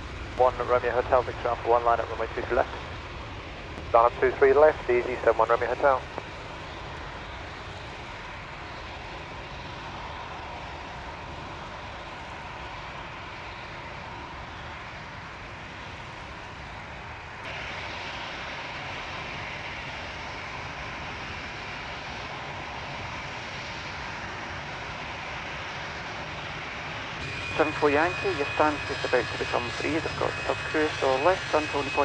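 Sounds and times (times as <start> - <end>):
airliner engines running: 0.0 - 32.0.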